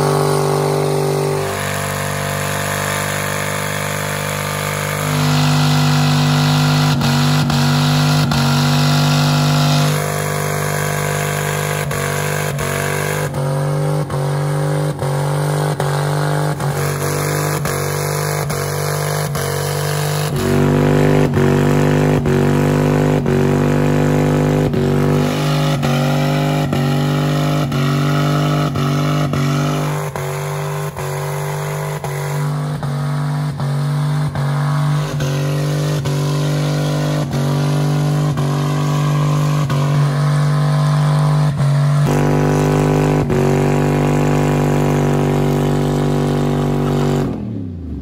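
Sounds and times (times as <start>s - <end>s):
engine revving high: 0.0s - 48.0s.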